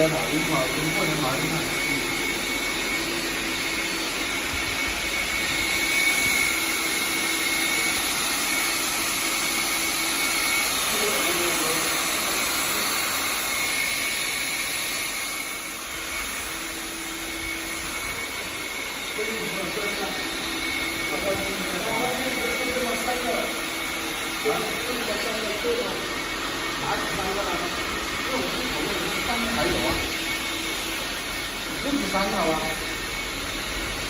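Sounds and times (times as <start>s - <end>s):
robot vacuum cleaner whirring: 0.0s - 34.0s.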